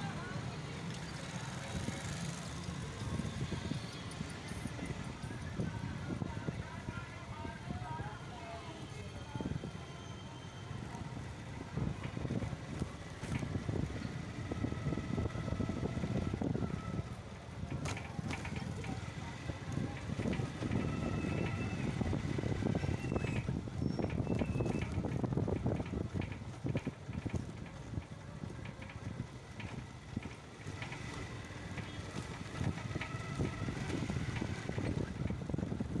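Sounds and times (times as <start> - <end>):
wind buffeting microphone: 0.0 - 8.1, 8.8 - 36.0
motorcycle engine rumble: 0.0 - 36.0
road noise: 0.0 - 36.0.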